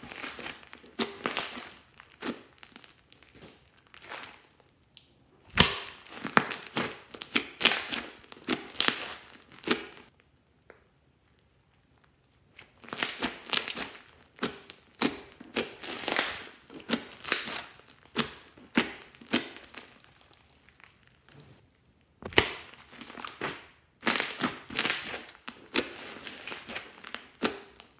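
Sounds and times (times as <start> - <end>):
slime squishing: 0.0 - 10.2, 11.9 - 27.9.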